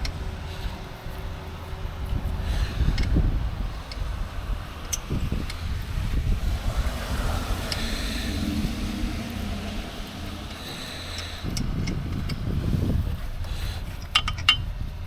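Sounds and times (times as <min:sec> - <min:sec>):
faint high whine: 0:00.0 - 0:13.4
motor vehicle rumble: 0:00.0 - 0:15.0.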